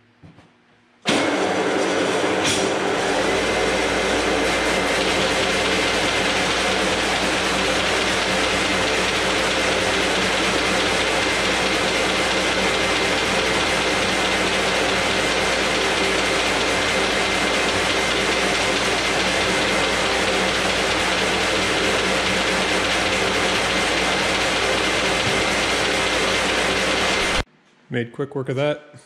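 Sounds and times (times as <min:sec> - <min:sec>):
paper folding machine running: 0:01.1 - 0:27.4
high machine whine: 0:01.1 - 0:27.5.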